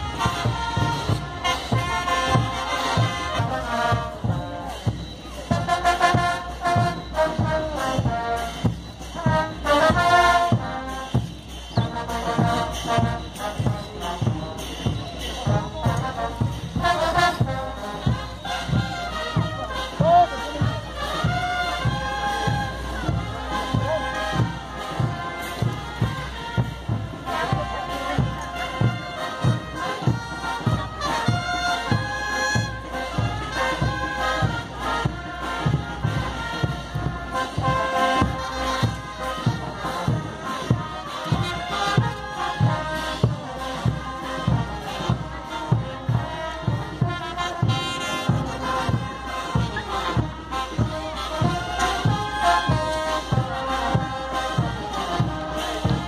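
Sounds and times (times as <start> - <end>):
bass drum beat: 0.0 - 56.0
brass melody: 0.0 - 56.0.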